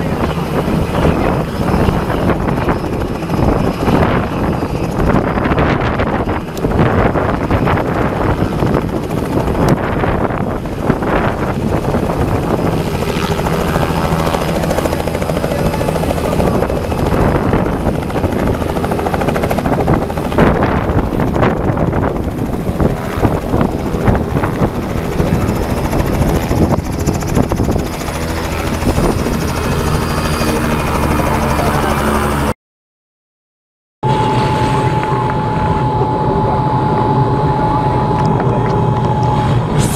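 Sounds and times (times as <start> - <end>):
helicopter rotor and turbine engine: 0.0 - 32.6, 34.0 - 39.9.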